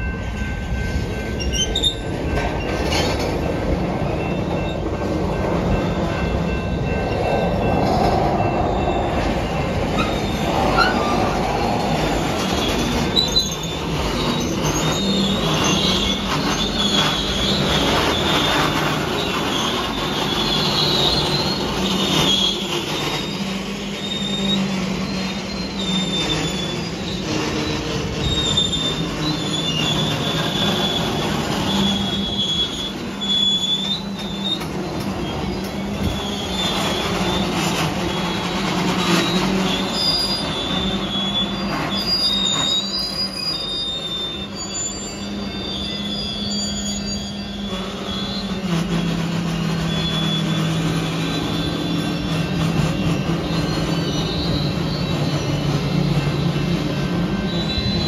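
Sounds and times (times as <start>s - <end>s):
train rumbling past: 0.0s - 58.0s
wheels squealing on rails: 0.0s - 58.0s.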